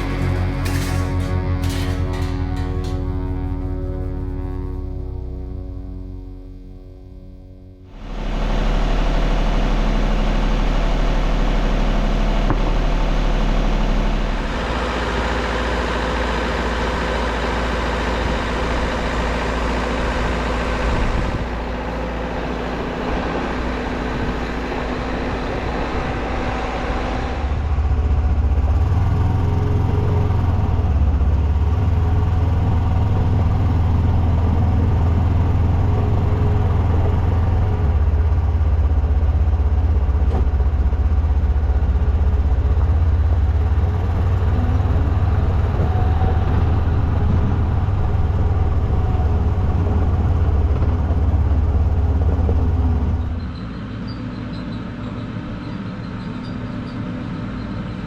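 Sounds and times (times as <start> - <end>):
sawmill engine humming: 0.0 - 54.1.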